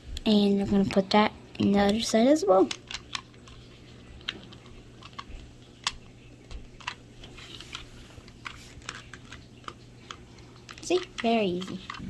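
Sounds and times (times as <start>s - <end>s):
plastic blocks clicking: 1.6s - 3.6s, 4.2s - 12.0s.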